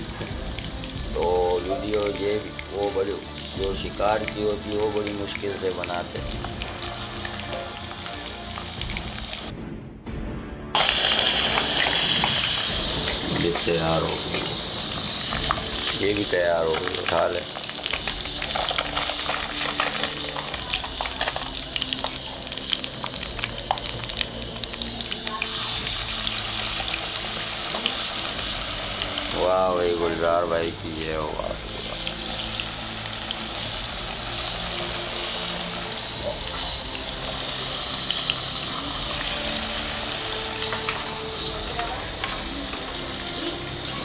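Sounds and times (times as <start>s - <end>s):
crackles and pops of frying: 0.0s - 9.5s, 10.8s - 44.0s
fish frying in hot oil: 0.0s - 9.5s, 10.8s - 44.0s.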